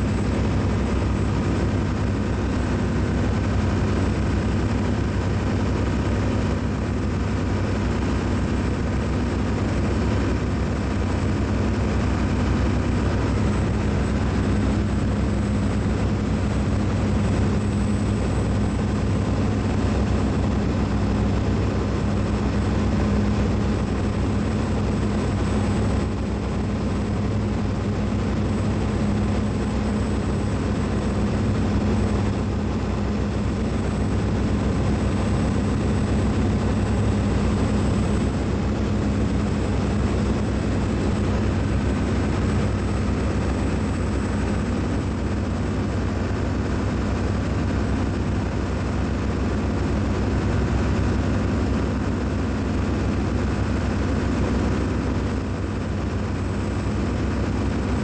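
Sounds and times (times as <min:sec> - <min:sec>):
low mechanical drone and rumble: 0:00.0 - 0:58.0.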